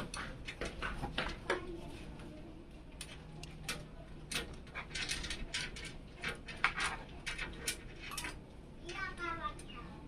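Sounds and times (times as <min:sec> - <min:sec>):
light clicks and rustles: 0:00.0 - 0:09.8.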